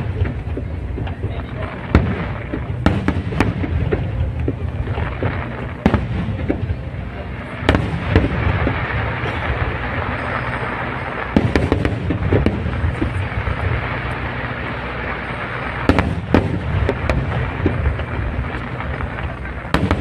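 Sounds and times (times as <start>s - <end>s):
continuous rumbling din: 0.0s - 20.0s.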